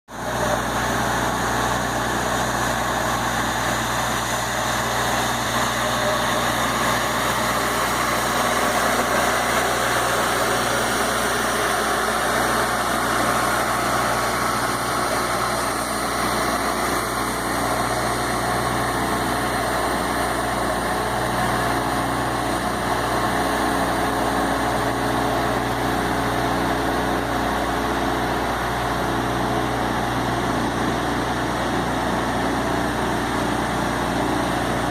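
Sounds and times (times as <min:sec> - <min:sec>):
floor scrubber motors humming: 0:00.1 - 0:34.9.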